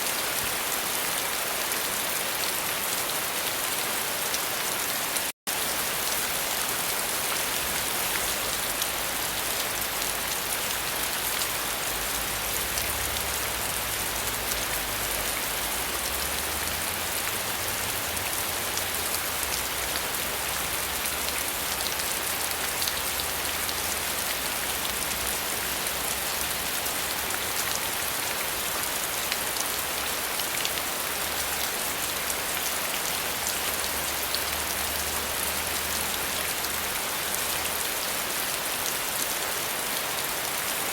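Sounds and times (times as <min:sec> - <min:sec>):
rain falling on a surface: 0:00.0 - 0:40.9.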